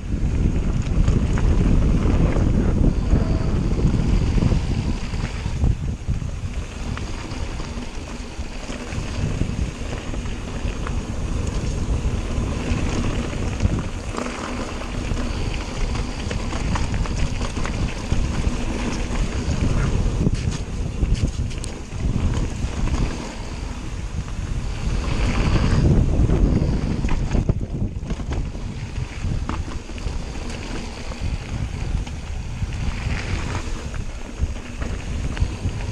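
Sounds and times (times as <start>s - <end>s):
bike rattling and clicking: 0.0s - 35.9s
tyres rumbling over gravel: 0.0s - 35.9s
wind buffeting microphone: 0.0s - 35.9s.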